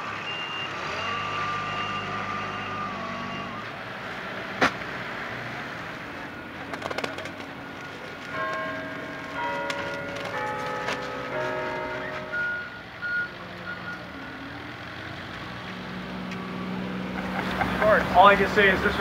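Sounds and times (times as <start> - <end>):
truck reversing beeps: 0.0 - 4.4, 7.3 - 18.2
truck engine: 0.0 - 19.0.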